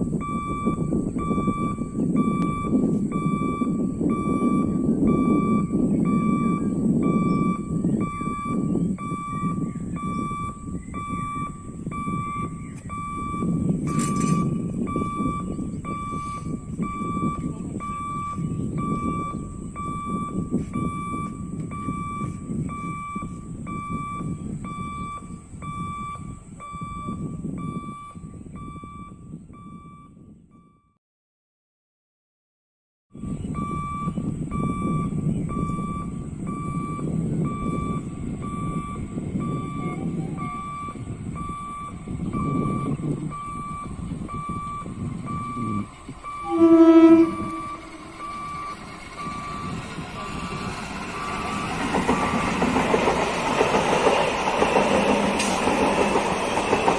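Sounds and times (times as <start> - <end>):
low rumbling noise: 0.0 - 30.6, 33.2 - 56.9
electronic beep pulsing: 0.2 - 30.9, 33.5 - 52.9.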